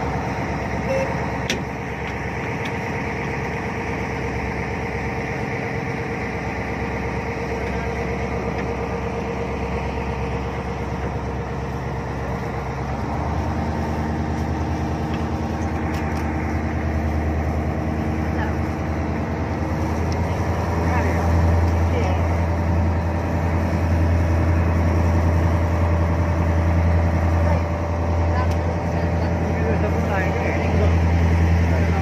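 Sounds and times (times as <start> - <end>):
jet boat engine running: 0.0 - 32.0.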